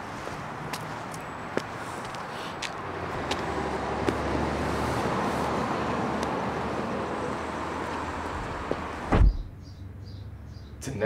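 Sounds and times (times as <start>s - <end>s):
vehicle passing: 0.4s - 10.8s.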